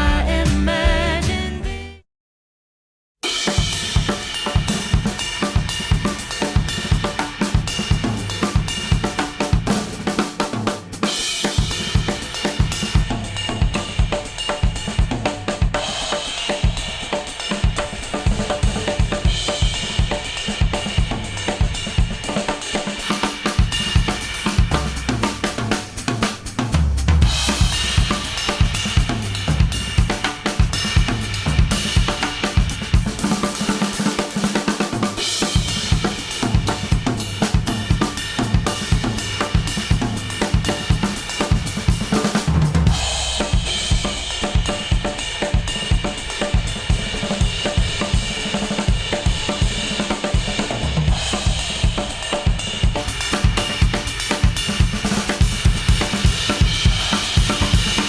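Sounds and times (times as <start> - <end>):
instrumental music with drum kit: 0.0 - 1.8, 3.2 - 58.0.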